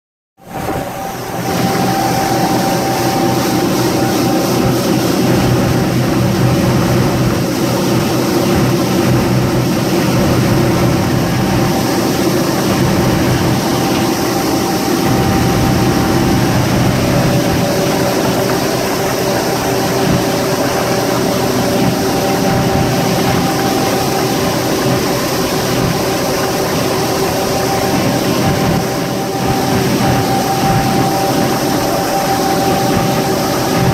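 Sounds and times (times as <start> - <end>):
outboard engines running: 0.4 - 33.9.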